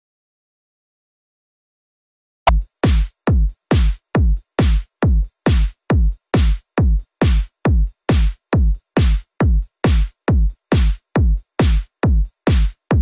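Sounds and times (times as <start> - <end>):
electronic dance music: 2.5 - 13.0.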